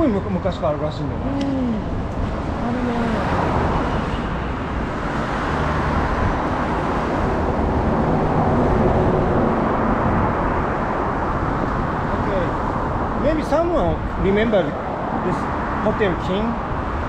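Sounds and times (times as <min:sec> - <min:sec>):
cars passing on a street: 0:00.0 - 0:17.0.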